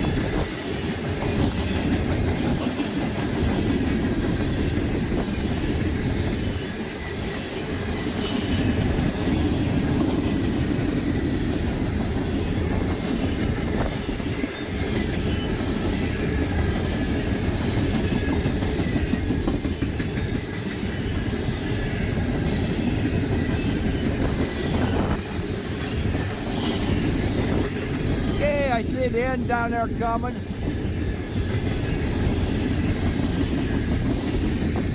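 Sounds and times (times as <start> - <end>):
freight train wheels rumbling on rail: 0.0 - 34.9
rail clacks: 0.0 - 34.9.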